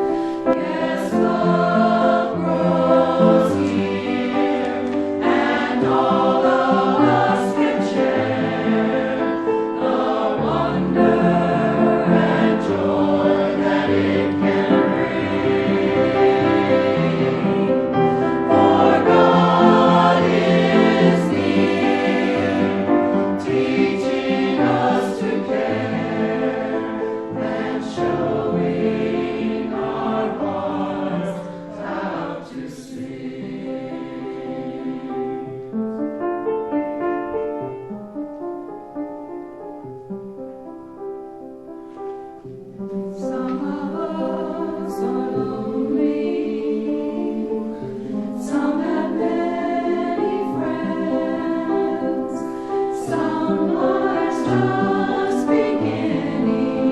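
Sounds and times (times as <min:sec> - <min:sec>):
choir singing church music: 0:00.0 - 0:56.9.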